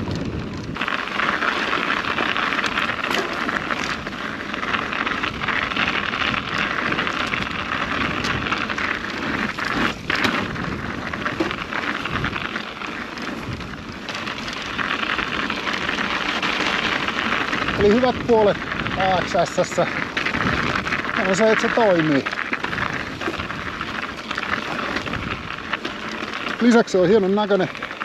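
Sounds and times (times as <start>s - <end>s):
bike ticks and rattles: 0.0s - 28.0s
tyre and wind noise: 0.0s - 28.0s.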